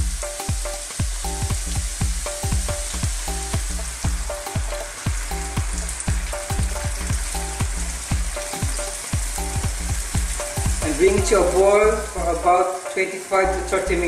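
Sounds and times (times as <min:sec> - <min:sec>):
light music with steady beat: 0:00.0 - 0:14.0
meat sizzling in hot oil: 0:00.0 - 0:14.0.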